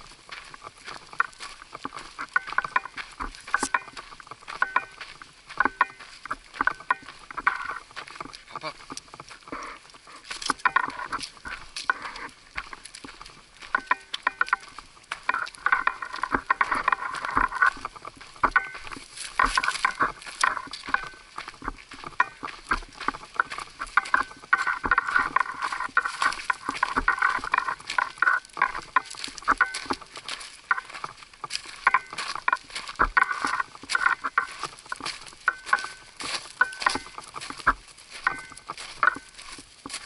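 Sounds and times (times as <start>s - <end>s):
footsteps on gravel: 0.0s - 40.0s.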